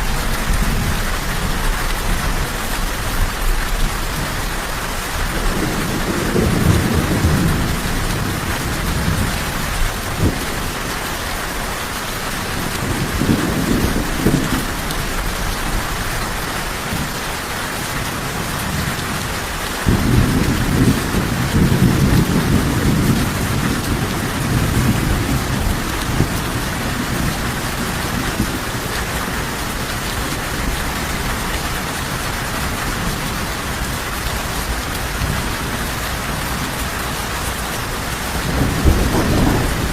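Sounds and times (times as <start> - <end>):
heavy rain falling: 0.0 - 39.9
thunder rumbling: 5.1 - 11.6, 12.2 - 16.1, 18.2 - 39.9.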